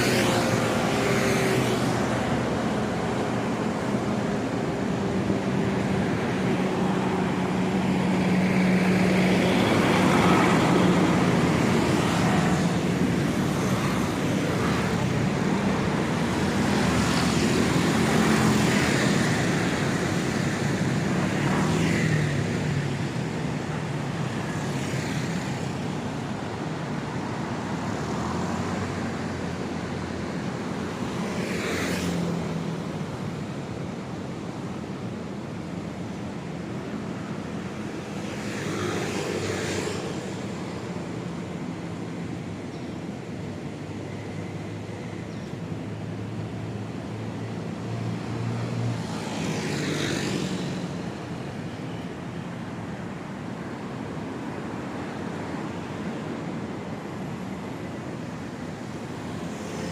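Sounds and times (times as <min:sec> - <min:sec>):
vehicles passing by: 0:00.0 - 0:59.9.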